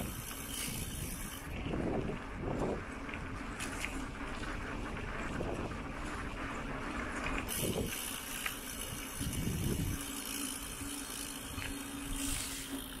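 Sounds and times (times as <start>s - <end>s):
bike rattling: 0.0s - 13.0s
bike tyres rolling: 0.0s - 13.0s
steady low hum: 0.0s - 13.0s.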